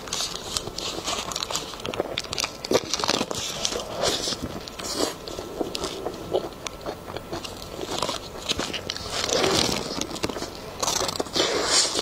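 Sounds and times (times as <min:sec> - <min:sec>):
crackly eating sounds: 0:00.0 - 0:12.0.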